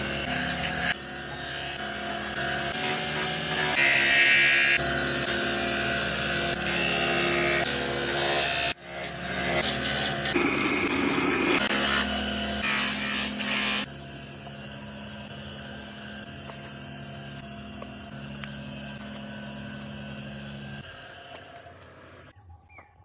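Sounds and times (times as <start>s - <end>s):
power tool grinding horn: 0.0s - 22.1s
motor running without load: 0.0s - 22.3s.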